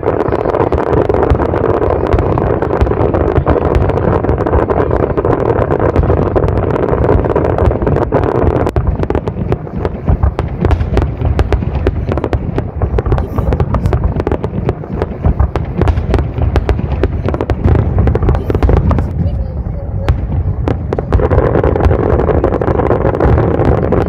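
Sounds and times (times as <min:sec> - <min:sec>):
fireworks bangs and crackles: 0:00.0 - 0:24.0
low rumble of booms: 0:00.0 - 0:24.0.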